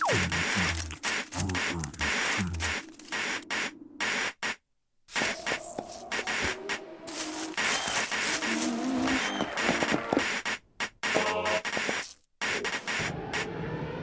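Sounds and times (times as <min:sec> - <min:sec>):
hiss bursts: 0:00.0 - 0:13.5.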